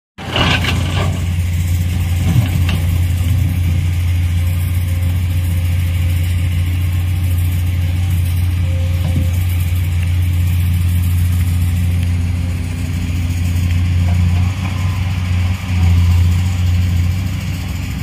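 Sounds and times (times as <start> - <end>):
excavator diesel engine running: 0.2 - 18.0.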